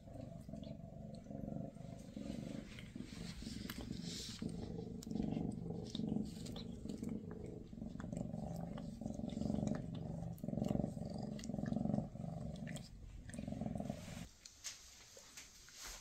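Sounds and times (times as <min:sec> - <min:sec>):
cats purring: 0:00.0 - 0:14.3.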